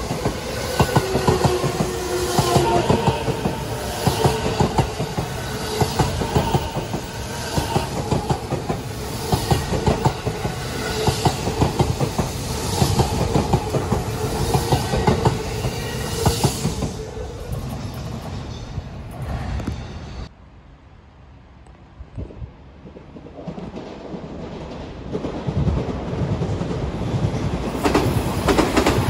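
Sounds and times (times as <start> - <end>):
electric train passing: 0.0 - 20.3, 22.8 - 29.0.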